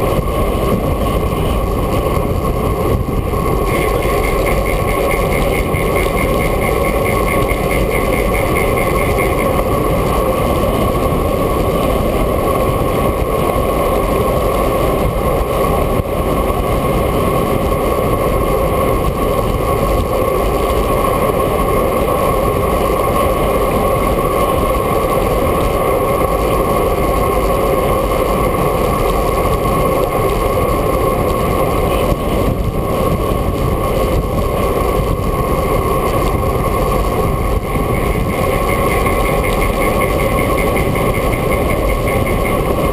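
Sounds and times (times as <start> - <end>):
wind rushing: 0.0 - 21.4, 22.4 - 42.9
constant drone: 0.0 - 42.9.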